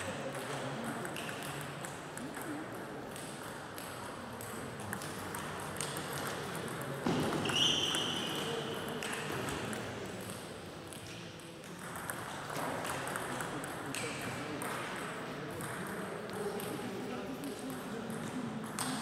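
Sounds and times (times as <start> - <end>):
table tennis balls clicking: 0.3 - 7.6, 8.8 - 16.8.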